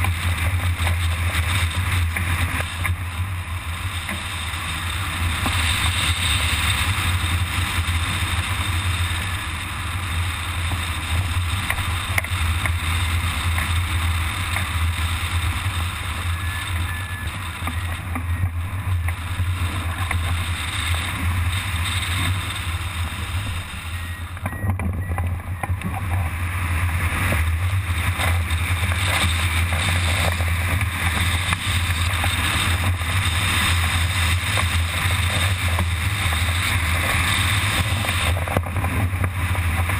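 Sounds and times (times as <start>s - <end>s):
deep rumble of buffeting: 0.0s - 39.9s
wind hiss over microphone: 0.0s - 39.9s.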